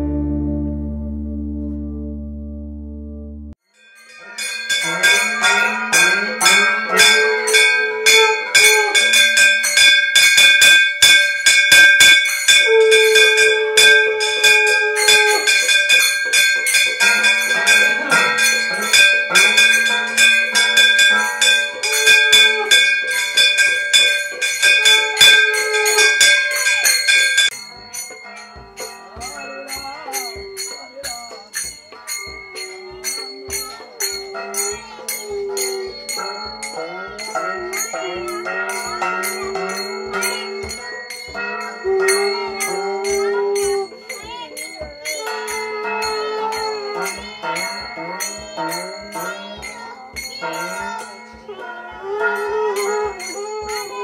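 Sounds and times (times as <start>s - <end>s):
hand bells jingling: 3.7s - 54.0s.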